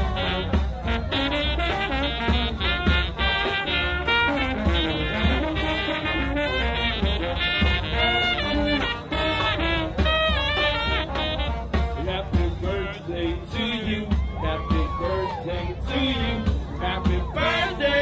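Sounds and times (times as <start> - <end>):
brass band playing jazz: 0.0 - 18.0
drum beat: 0.0 - 18.0.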